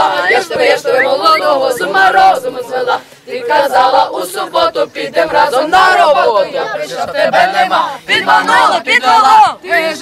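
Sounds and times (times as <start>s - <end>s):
young voices singing together: 0.0s - 10.0s.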